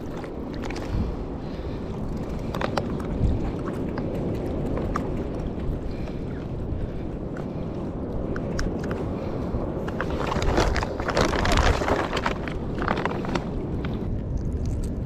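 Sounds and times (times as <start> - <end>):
sea water lapping: 0.0 - 14.8
wind rumble on microphone: 0.0 - 15.0.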